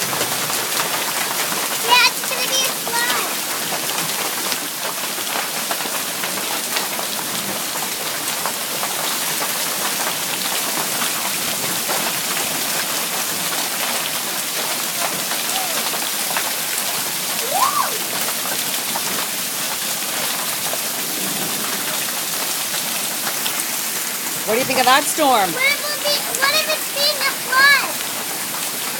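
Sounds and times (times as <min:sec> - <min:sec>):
torrential rain pouring: 0:00.0 - 0:28.9.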